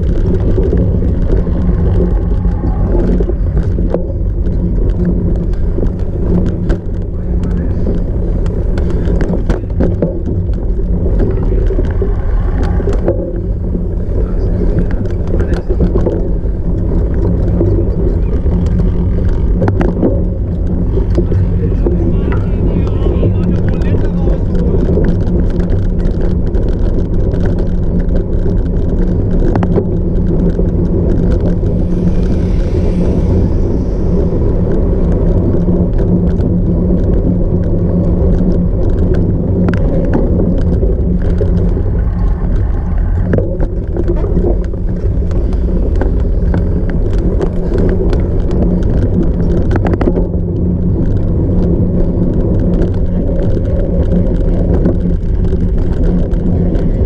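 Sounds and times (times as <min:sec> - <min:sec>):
bike clicks and rattles: 0:00.0 - 0:57.0
tyres rumbling on rough ground: 0:00.0 - 0:57.0
wind on microphone: 0:00.0 - 0:57.0.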